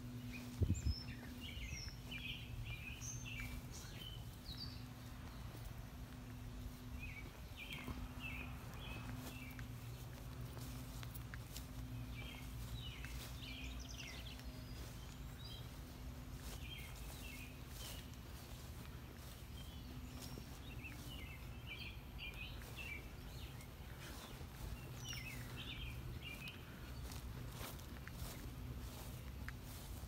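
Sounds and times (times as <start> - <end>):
songbirds chirping: 0.0 - 30.0
steady low hum: 0.0 - 30.0.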